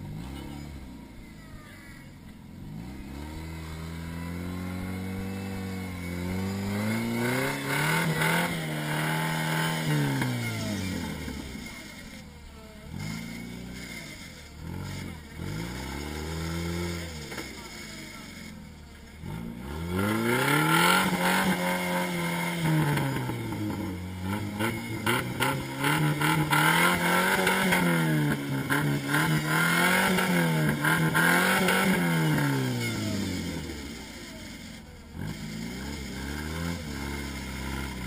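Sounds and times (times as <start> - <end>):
off-road engine revving hard: 0.0 - 38.0.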